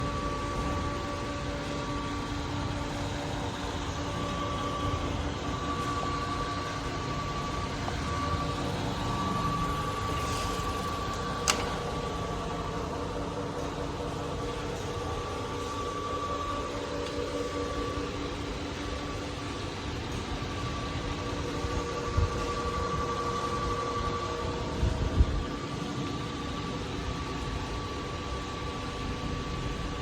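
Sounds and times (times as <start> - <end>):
milling machine humming and whining: 0.0 - 30.0.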